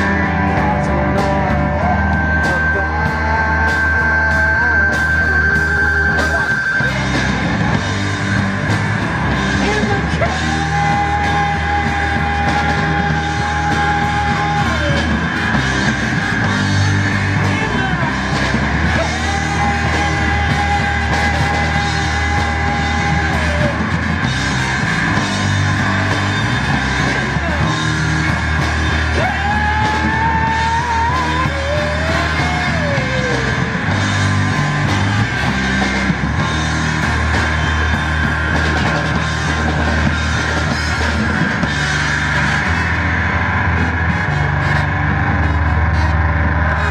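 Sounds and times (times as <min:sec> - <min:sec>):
street band playing: 0:00.0 - 0:46.9.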